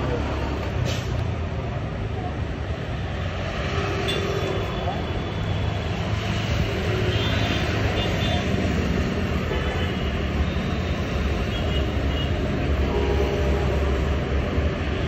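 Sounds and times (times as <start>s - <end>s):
vehicle rumbling in motion: 0.0s - 15.0s.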